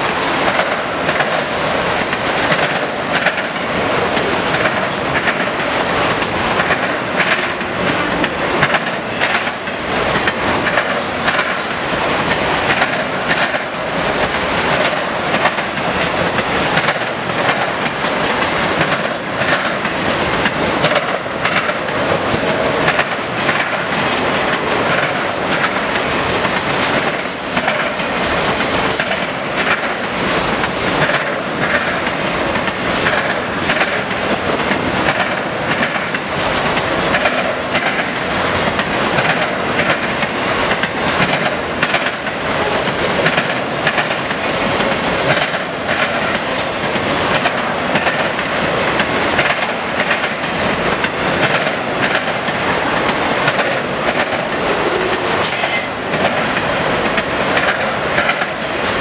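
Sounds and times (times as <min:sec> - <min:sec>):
train wheels clattering over crossing: 0:00.0 - 0:59.0.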